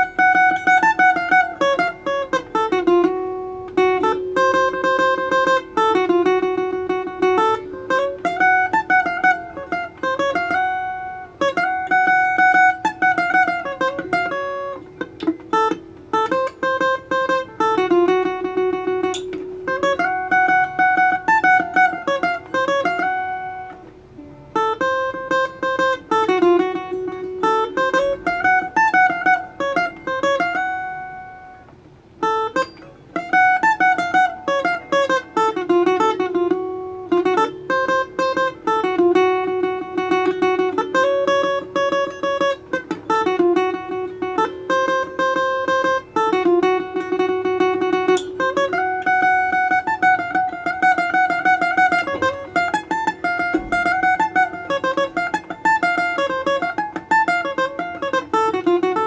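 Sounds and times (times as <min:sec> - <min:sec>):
plucked string instrument melody: 0:00.0 - 0:59.0.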